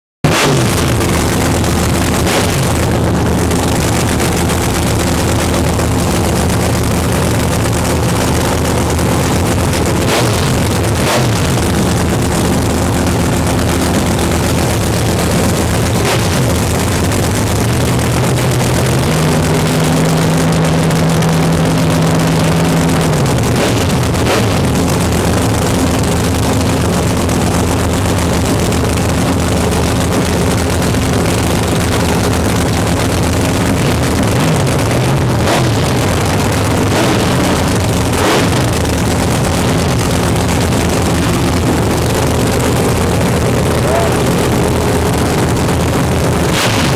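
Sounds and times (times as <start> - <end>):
engine idling with rough cackle: 0.2 - 46.9
engine revving: 0.2 - 46.9.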